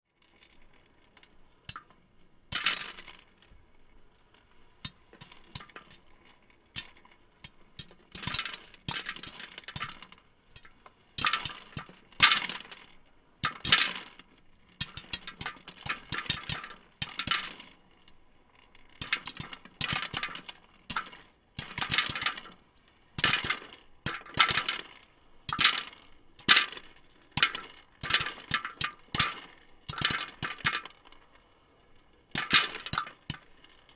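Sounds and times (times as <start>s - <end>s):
popcorn popping and crunching: 1.6s - 3.4s, 4.8s - 17.6s, 19.0s - 22.6s, 23.2s - 31.2s, 32.3s - 33.9s.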